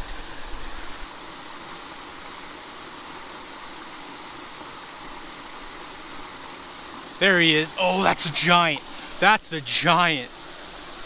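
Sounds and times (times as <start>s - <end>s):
water rushing into a pool: 0.0s - 11.0s.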